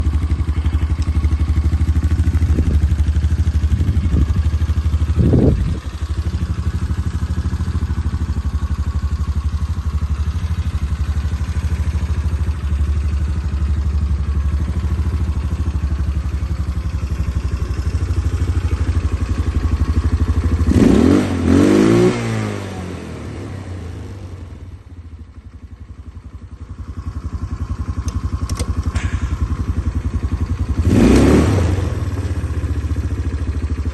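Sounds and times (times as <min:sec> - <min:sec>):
atv engine idling and revving: 0:00.0 - 0:33.9.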